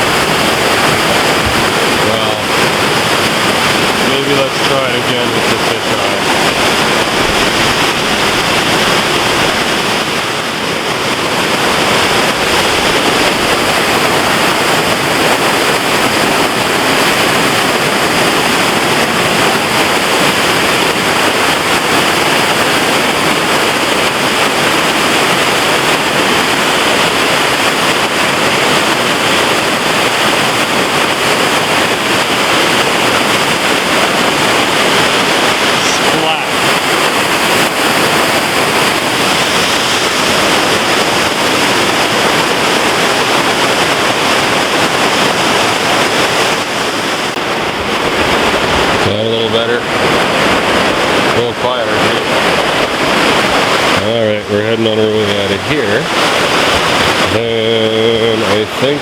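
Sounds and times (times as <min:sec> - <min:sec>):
waterfall pouring: 0:00.0 - 0:59.0.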